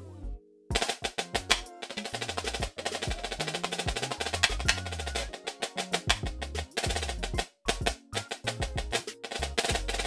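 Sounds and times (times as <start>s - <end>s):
snare drum stick strokes: 0.7s - 10.0s.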